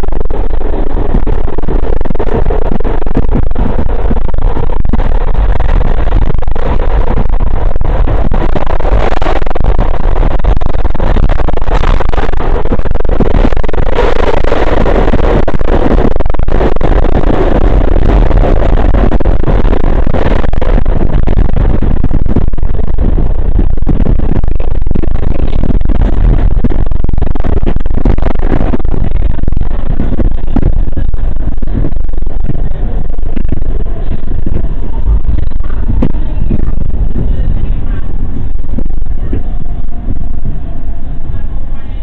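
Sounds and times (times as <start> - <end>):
subway wheels rumbling on rails: 0.0 - 42.0.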